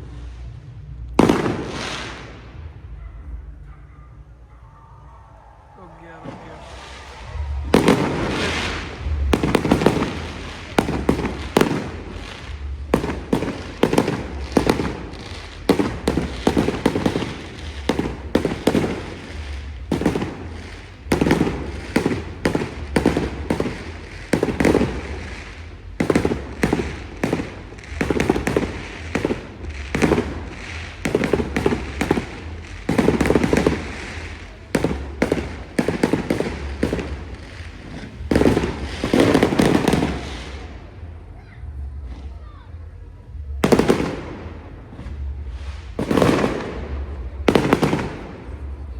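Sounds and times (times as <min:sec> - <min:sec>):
fireworks bursting: 0:00.0 - 0:03.0, 0:05.6 - 0:48.9.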